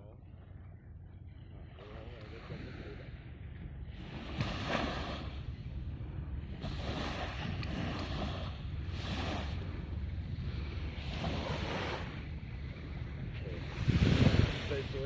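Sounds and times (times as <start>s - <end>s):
wind rumbling on microphone: 0.0s - 15.0s
small waves washing ashore: 1.5s - 15.0s.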